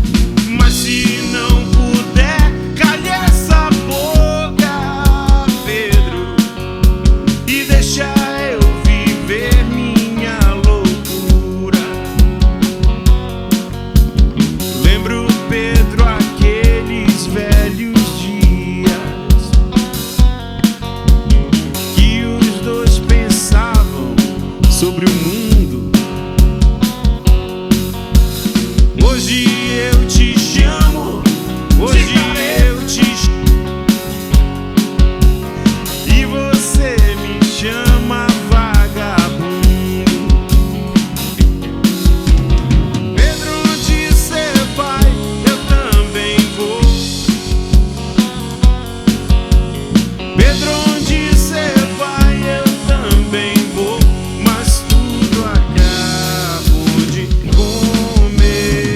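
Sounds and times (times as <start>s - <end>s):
bass guitar: 0.0s - 58.9s
drum kit with steady kick: 0.0s - 58.9s
guitar: 0.0s - 58.9s
sliding melodic lead line: 0.0s - 58.9s.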